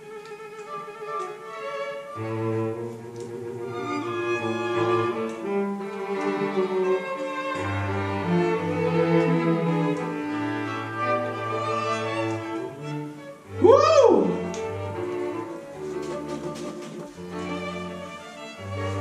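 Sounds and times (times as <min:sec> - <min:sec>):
bowed strings melody: 0:00.0 - 0:19.0.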